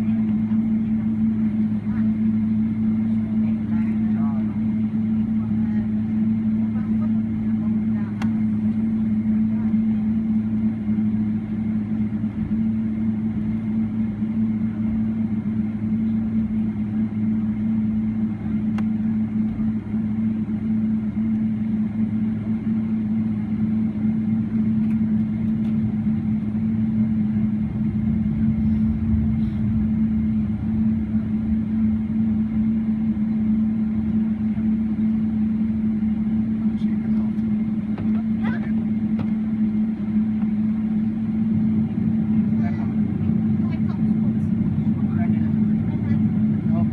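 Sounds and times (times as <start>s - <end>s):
aircraft cabin engine drone: 0.0s - 46.9s.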